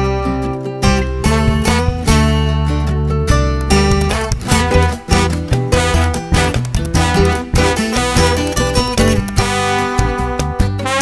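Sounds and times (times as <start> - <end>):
plucked string instrumental music: 0.0 - 11.0.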